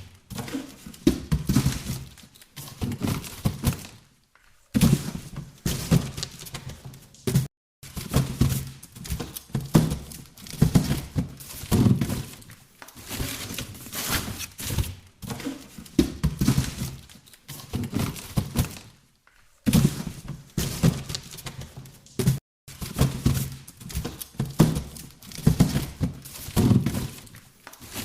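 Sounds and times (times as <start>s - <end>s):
cardboard boxes thudding: 0.0s - 4.0s, 4.8s - 12.4s, 13.0s - 18.9s, 19.7s - 28.0s
cardboard scraping and rustling: 4.8s - 18.9s, 19.7s - 28.0s.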